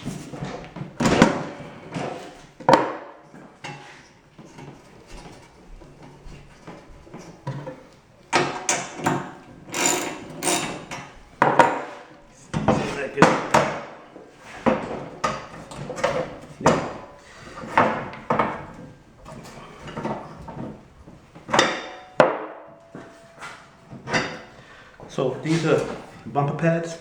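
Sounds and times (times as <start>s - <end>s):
metal knocks and clatters: 0.0s - 22.4s.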